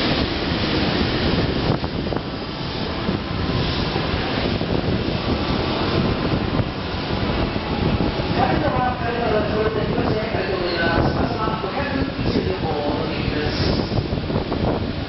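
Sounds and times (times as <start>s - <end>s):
train wheel and air rush: 0.0s - 15.0s.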